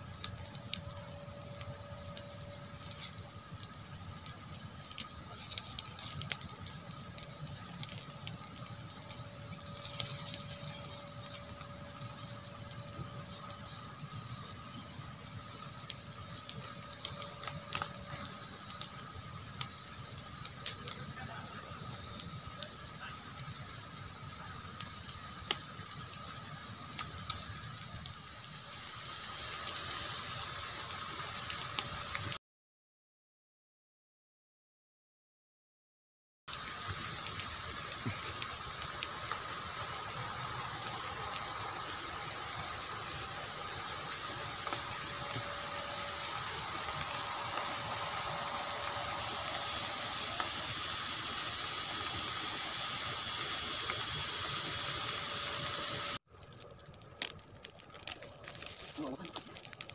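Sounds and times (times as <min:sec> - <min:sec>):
campfire crackling and popping: 0:00.0 - 0:32.4, 0:36.5 - 0:59.9.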